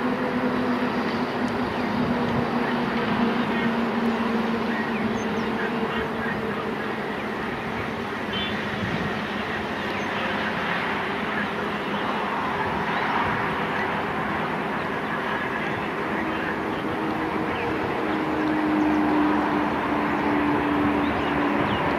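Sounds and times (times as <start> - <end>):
distant diesel locomotive drone: 0.0 - 21.9
open-air noise: 0.0 - 21.9.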